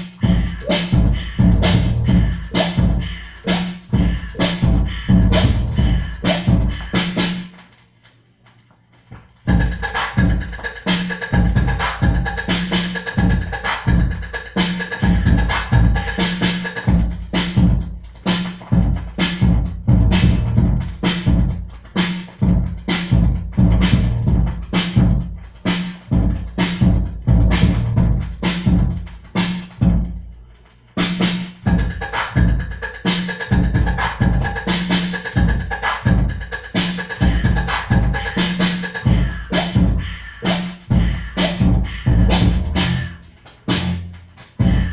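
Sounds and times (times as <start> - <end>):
funk music with drum-machine beat: 0.0 - 8.0, 8.8 - 44.9.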